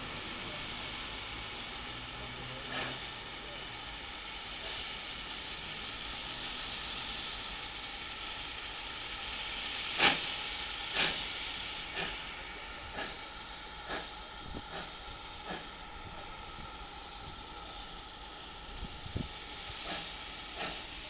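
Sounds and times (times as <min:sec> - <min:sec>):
locomotive exhaust chuffs: 0:00.0 - 0:21.0
steam locomotive hissing: 0:00.0 - 0:21.0.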